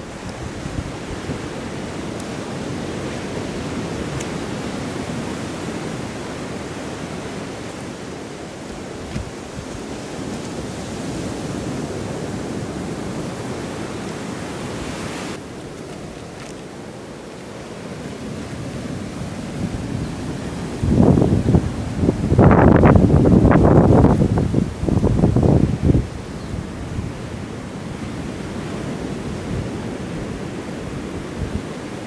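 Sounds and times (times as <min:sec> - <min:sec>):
surf breaking on beach: 0:00.0 - 0:32.0
wind on microphone: 0:00.0 - 0:32.0.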